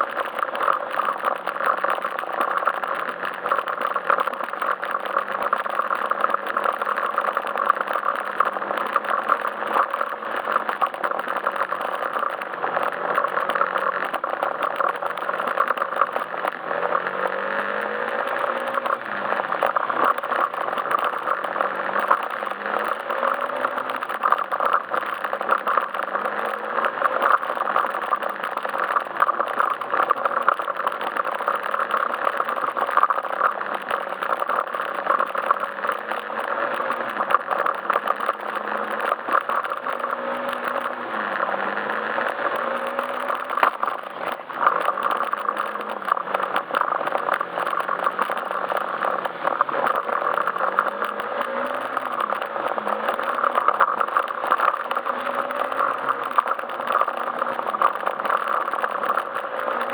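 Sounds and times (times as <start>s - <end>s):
scooter engine running: 0.0s - 59.9s
wind and road noise: 0.0s - 59.9s.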